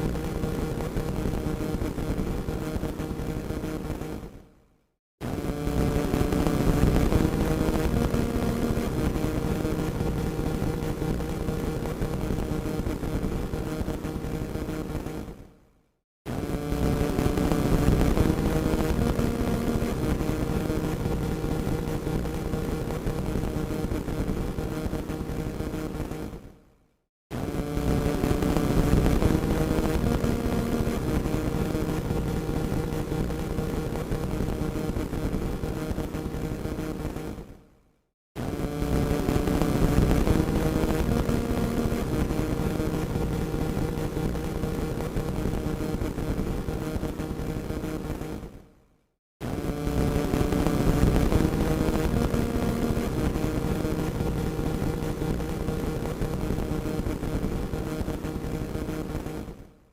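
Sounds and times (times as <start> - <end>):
radio static crackling: 5.2 - 15.3, 16.3 - 26.4, 27.4 - 37.5, 38.4 - 48.5, 49.4 - 59.6.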